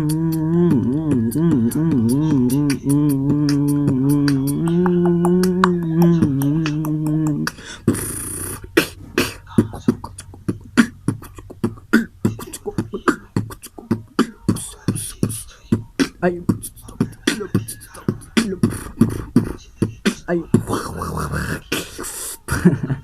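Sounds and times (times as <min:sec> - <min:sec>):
voice singing slow melody: 0:00.0 - 0:22.5
human beatbox rhythm: 0:00.0 - 0:23.0.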